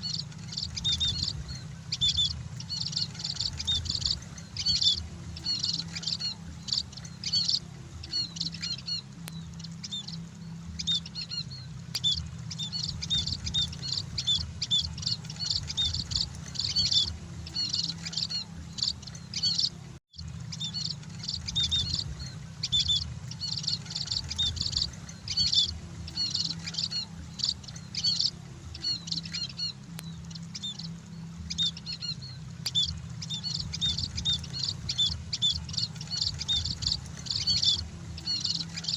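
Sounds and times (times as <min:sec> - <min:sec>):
birds chirping rapidly: 0:00.0 - 0:38.9
steady low hum: 0:00.0 - 0:38.9.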